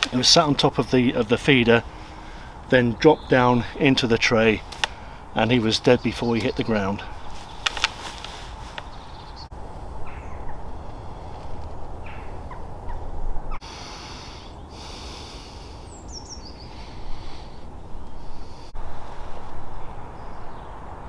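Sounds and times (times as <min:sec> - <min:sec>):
birds chirping: 0:00.0 - 0:18.8, 0:19.7 - 0:21.0
steady low rumble: 0:00.0 - 0:21.0.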